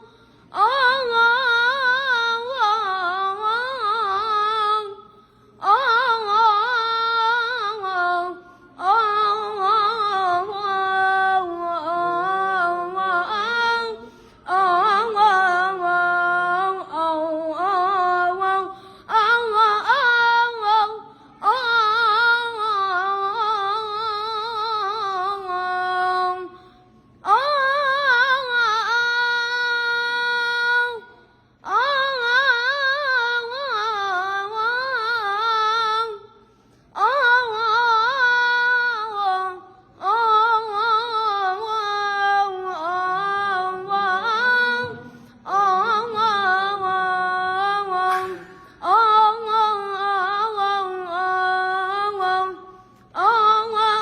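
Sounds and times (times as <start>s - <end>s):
boy singing unaccompanied: 5.6s - 26.6s, 27.2s - 36.3s, 37.0s - 54.0s.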